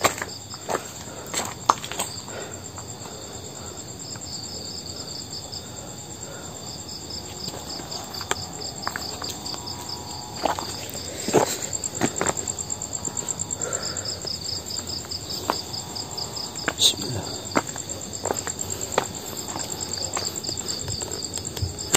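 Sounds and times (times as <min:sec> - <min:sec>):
crickets chirping: 0:00.0 - 0:21.9.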